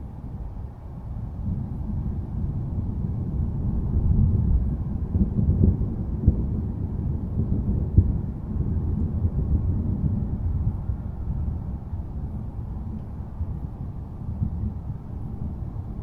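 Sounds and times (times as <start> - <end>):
rolling thunder rumble: 0.0 - 16.0
thunder crackles: 1.4 - 16.0.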